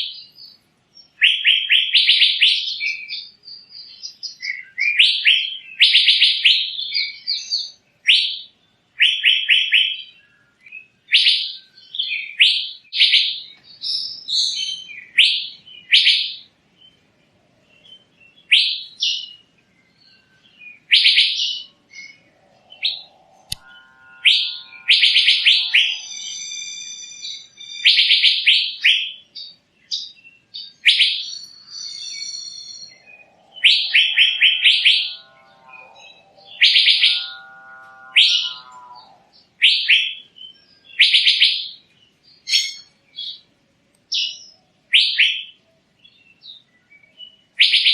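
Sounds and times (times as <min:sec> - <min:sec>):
bird singing whistled trills: 0:00.0 - 0:17.0, 0:17.7 - 0:43.4, 0:44.1 - 0:47.9
lower bird calls: 0:00.0 - 0:43.5.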